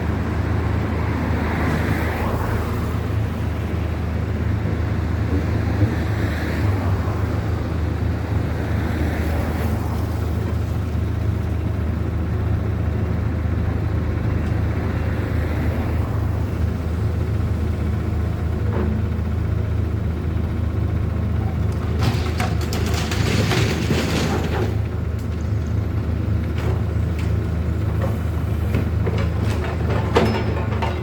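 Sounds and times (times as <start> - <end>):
large engine droning: 0.0 - 31.0.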